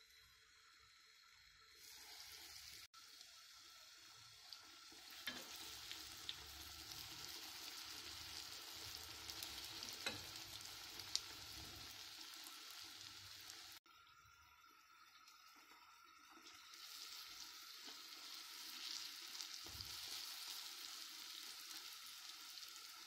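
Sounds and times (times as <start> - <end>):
dough frying in oil: 0.0 - 23.0.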